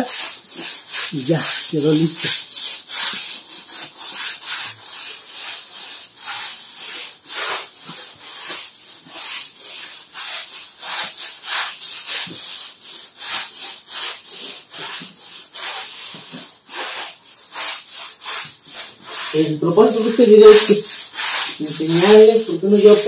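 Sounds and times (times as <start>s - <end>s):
broom scrubbing wet concrete: 0.0s - 23.0s.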